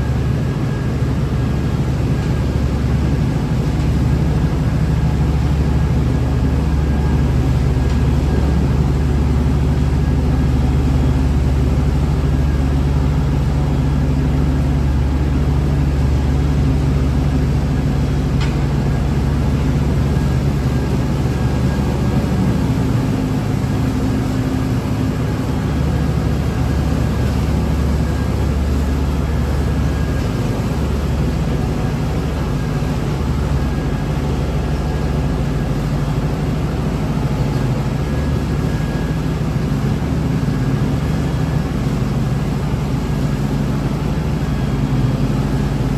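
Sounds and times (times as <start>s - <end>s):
heavy machinery engine running: 0.0s - 45.9s.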